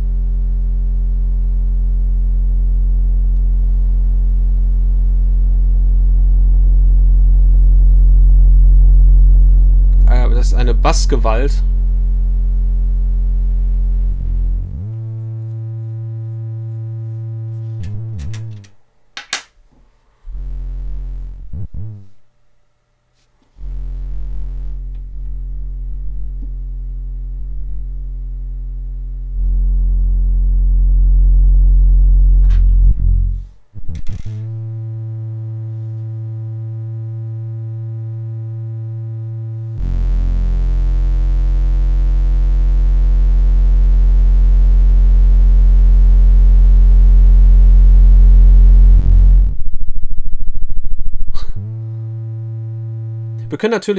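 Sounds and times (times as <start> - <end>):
deep bass synthesizer drones: 0.0 - 18.3, 20.3 - 22.1, 23.6 - 33.6, 34.2 - 53.5.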